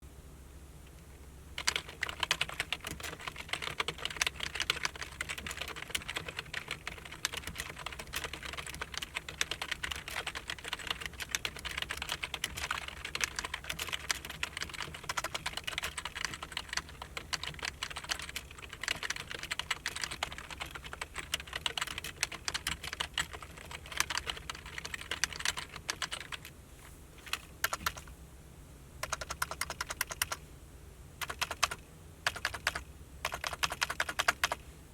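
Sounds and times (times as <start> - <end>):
keyboard typing: 1.6 - 26.5, 27.2 - 28.1, 29.0 - 30.4, 31.2 - 34.6.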